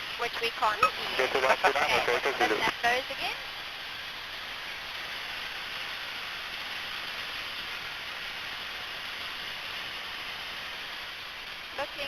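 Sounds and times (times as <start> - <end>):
aircraft cabin engine and airflow rush: 0.0 - 12.0.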